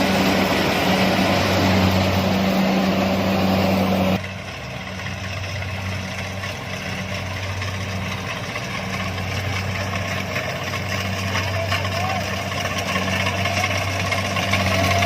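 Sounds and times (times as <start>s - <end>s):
diesel engine humming: 0.0s - 15.0s
machinery clatter: 0.0s - 15.0s.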